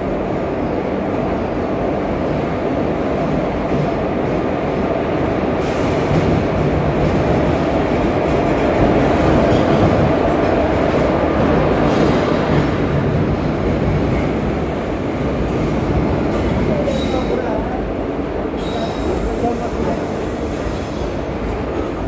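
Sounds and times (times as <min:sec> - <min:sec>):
train wheels running on rails: 0:00.0 - 0:22.0.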